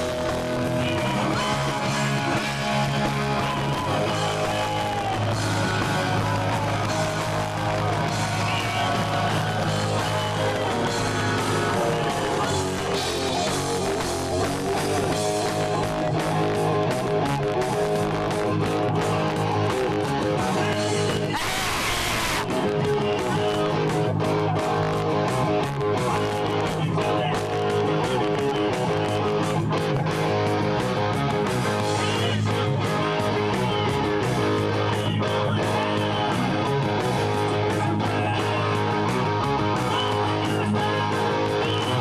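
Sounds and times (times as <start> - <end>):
rock band playing live: 0.0 - 42.0.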